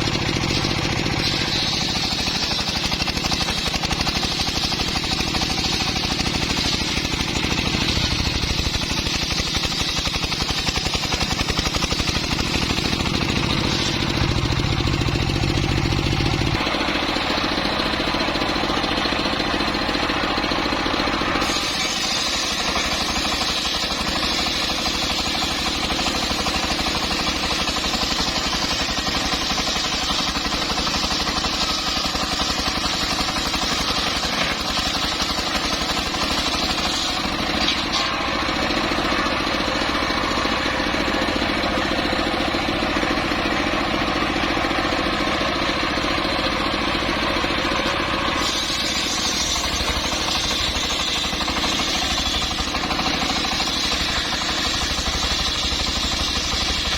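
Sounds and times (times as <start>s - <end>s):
circular saw cutting timber: 0.0s - 56.9s.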